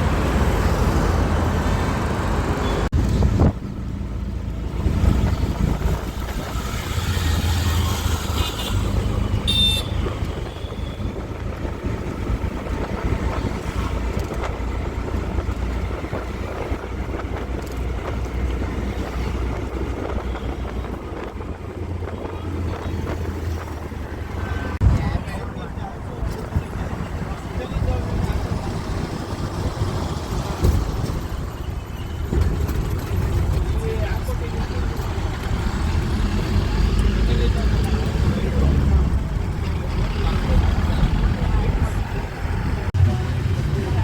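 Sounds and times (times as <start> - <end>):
vehicle motor rumbling: 0.0 - 44.0.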